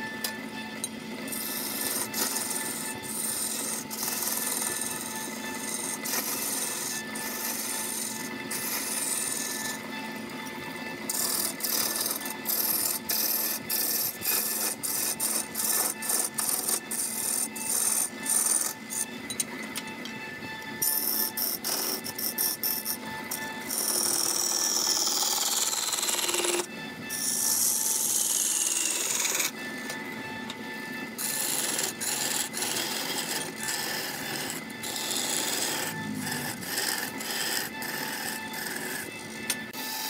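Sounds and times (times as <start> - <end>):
lathe hum: 0.0 - 40.0
lathe tool scraping wood: 0.0 - 40.0.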